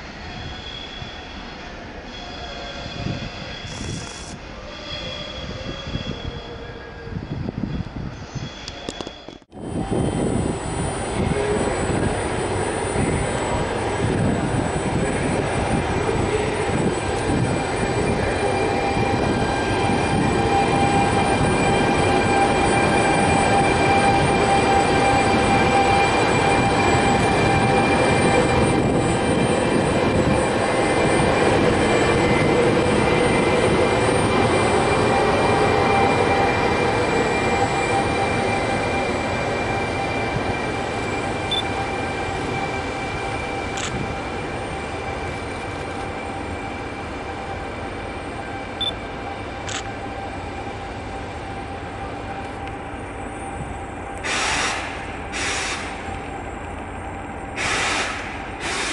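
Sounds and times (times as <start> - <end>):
train wheels rumbling on rail: 0.0 - 58.9
train whining tones: 0.0 - 58.9.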